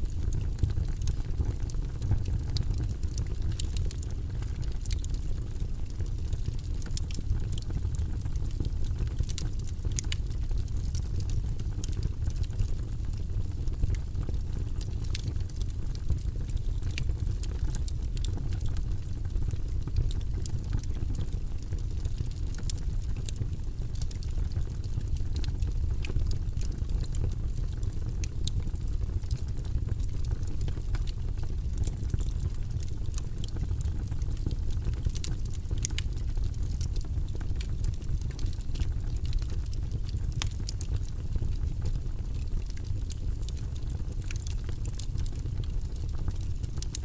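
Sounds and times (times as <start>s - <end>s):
fire crackles and pops: 0.0s - 47.0s
fire low rumble: 0.0s - 47.0s.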